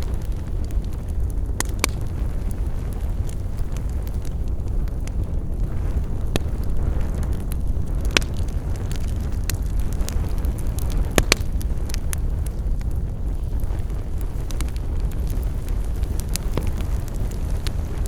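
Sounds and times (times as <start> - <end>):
campfire crackling and popping: 0.0 - 18.0
steady low rumble: 0.0 - 18.0.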